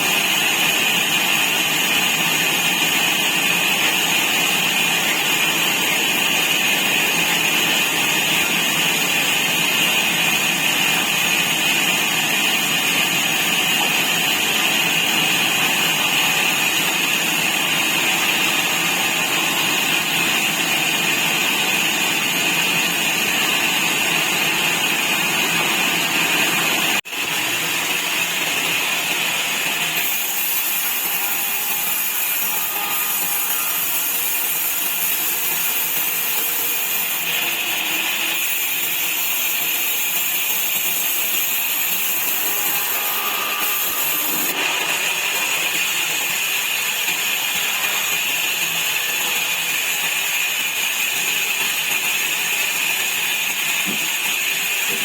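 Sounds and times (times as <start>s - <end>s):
sawmill saw cutting wood: 0.0s - 55.0s.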